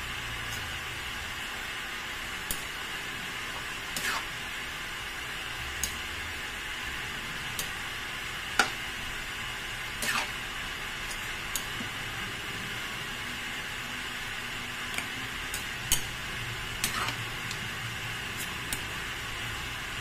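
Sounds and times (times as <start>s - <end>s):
meat sizzling in a wok: 0.0s - 20.0s.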